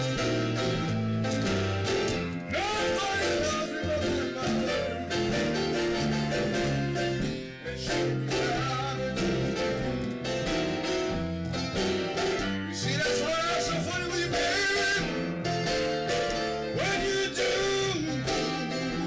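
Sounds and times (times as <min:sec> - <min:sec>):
electric bass guitar: 0:00.0 - 0:19.0
upright piano playing: 0:00.0 - 0:19.0.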